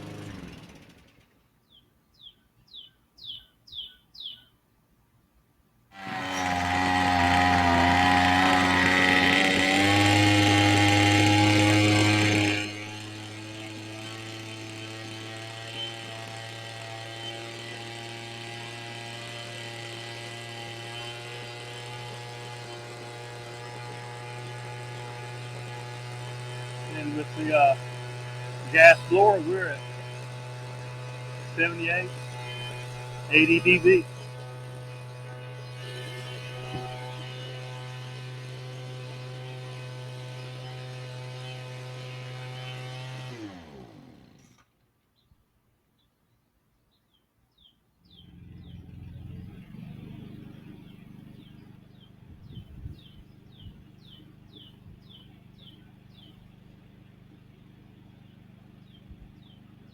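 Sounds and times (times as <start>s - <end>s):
leaf blower engine buzzing: 0.0s - 1.4s, 5.9s - 44.8s, 48.2s - 59.9s.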